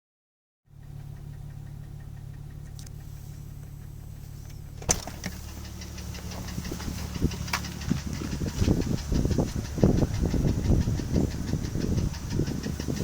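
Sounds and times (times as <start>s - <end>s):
car engine idling: 0.7s - 13.0s
metallic ticking knock: 0.7s - 13.0s.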